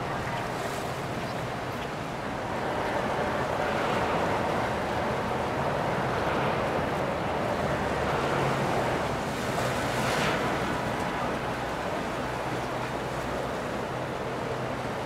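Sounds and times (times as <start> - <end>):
low boat engine hum: 0.0 - 15.0
water and wind rushing: 0.0 - 15.0.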